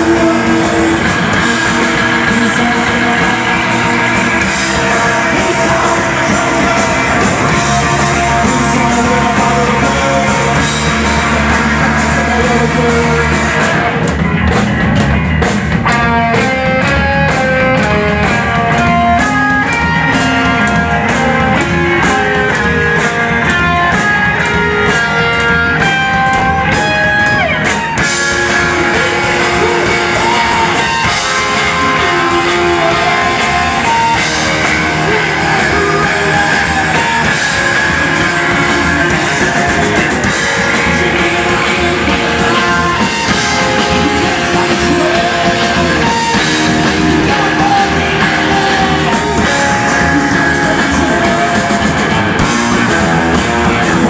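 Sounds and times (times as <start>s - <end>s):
live rock band playing: 0.0s - 54.0s
picked guitar line: 0.0s - 54.0s.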